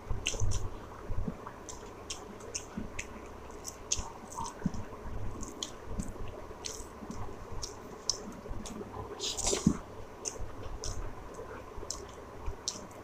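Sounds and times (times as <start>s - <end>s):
wet chewing and smacking: 0.2s - 13.0s
small mouth clicks: 1.7s - 4.8s, 5.4s - 12.9s.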